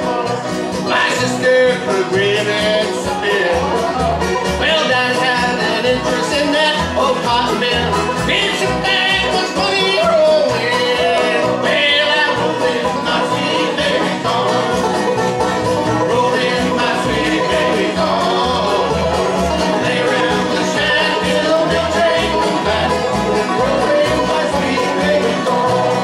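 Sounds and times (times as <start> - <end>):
men singing harmony: 0.0 - 3.7, 4.6 - 26.0
bluegrass band playing: 0.0 - 26.0.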